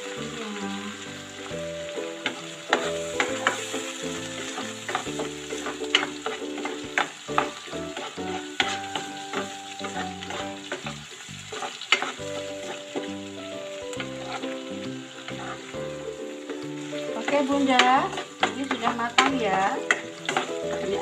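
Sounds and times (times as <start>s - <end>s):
steady sizzle: 0.0s - 21.0s
spatula scraping a wok: 2.2s - 13.3s, 14.0s - 21.0s.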